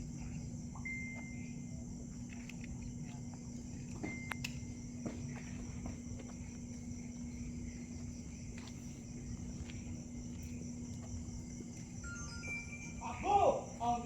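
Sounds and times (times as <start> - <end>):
insects trilling: 0.0 - 14.0
low steady hum: 0.0 - 14.0.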